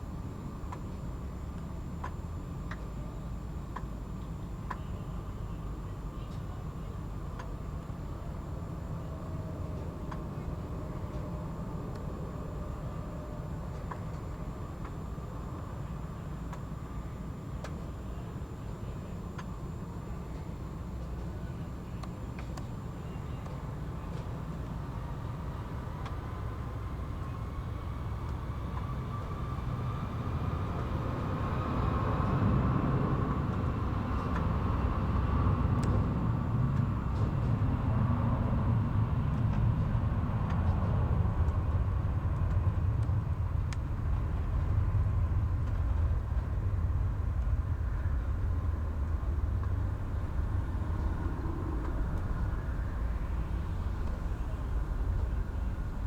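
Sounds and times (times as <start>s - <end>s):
jet engine whine: 0.0s - 56.0s
jet engines deep rumble: 0.0s - 56.0s.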